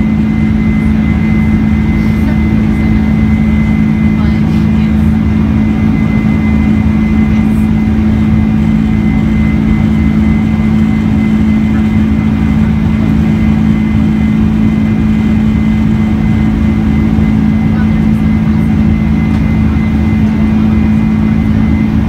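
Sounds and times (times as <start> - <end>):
jet engine drone: 0.0 - 22.0.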